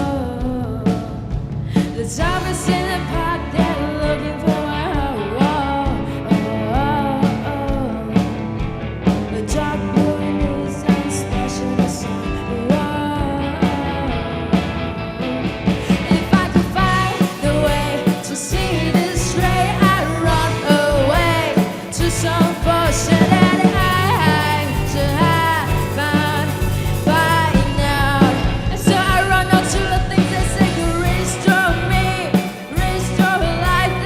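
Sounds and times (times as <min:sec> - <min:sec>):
lead vocalist singing: 0:00.0 - 0:34.0
rock band playing live: 0:00.0 - 0:34.0.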